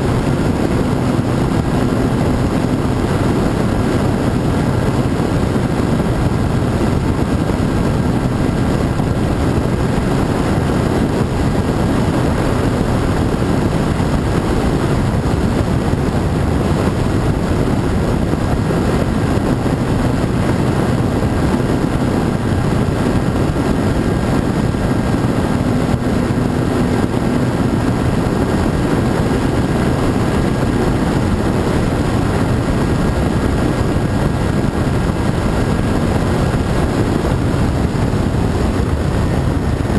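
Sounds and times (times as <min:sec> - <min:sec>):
model airplane motor and propeller: 0:00.0 - 0:39.9
rush of air noise: 0:00.0 - 0:39.9.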